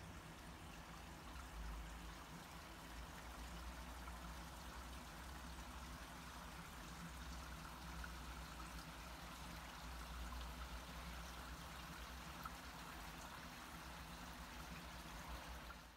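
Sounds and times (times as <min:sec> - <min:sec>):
stream running water: 0:00.0 - 0:15.9.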